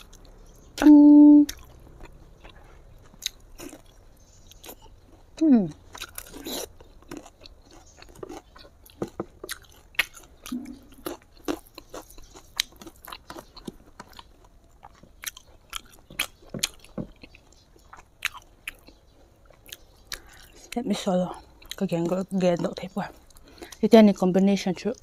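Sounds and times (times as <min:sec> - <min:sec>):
person chewing close to microphone: 0:00.0 - 0:23.9.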